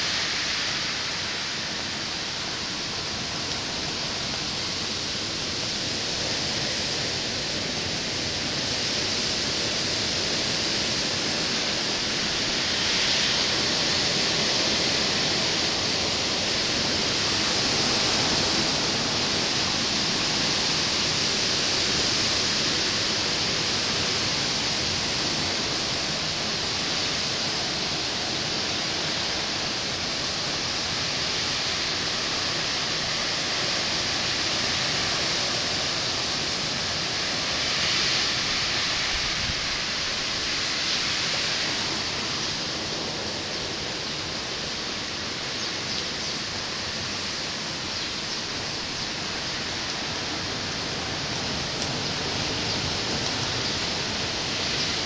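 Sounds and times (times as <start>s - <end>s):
strong wind through trees: 0.0s - 55.0s.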